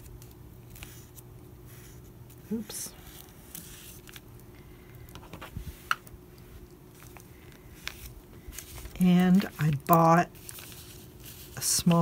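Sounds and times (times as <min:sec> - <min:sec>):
paper rustling: 0:00.0 - 0:04.3, 0:04.9 - 0:12.0.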